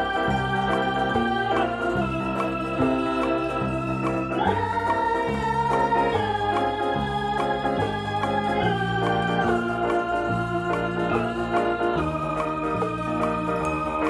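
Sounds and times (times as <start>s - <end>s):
organ-like keyboard chords: 0.0s - 14.0s.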